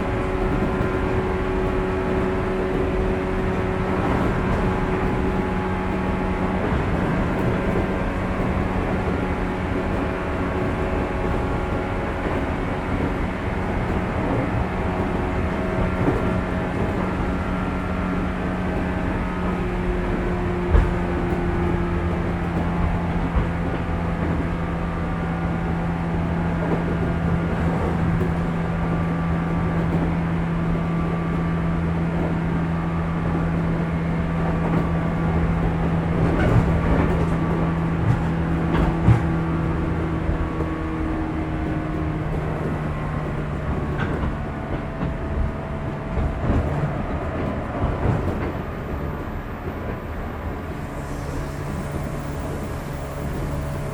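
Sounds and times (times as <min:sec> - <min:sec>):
train traction motors humming: 0:00.0 - 0:53.9.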